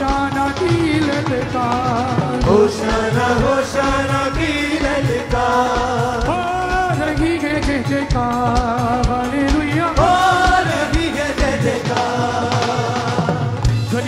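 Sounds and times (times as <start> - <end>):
keyboard: 0.0 - 14.0
steady drum beat: 0.0 - 14.0
upbeat worship song with band: 0.0 - 14.0.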